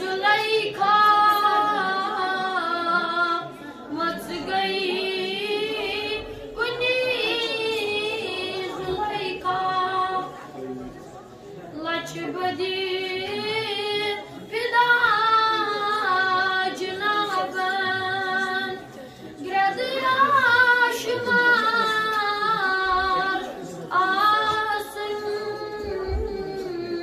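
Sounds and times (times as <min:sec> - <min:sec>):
boy singing unaccompanied: 0:00.0 - 0:10.3, 0:11.8 - 0:18.8, 0:19.4 - 0:27.0.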